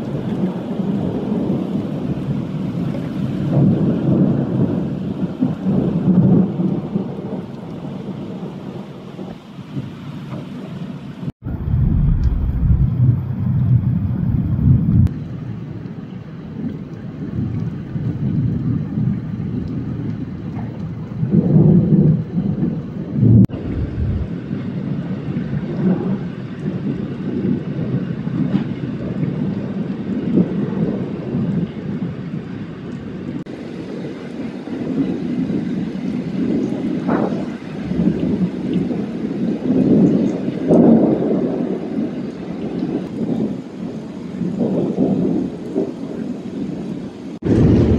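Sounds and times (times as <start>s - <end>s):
heavy rain pouring: 0.0s - 47.9s
thunder rumbling: 0.0s - 47.9s.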